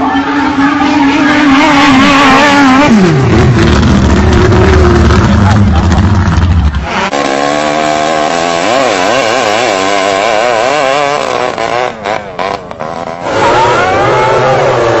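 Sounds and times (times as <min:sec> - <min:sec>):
boat engine at high revs: 0:00.0 - 0:15.0.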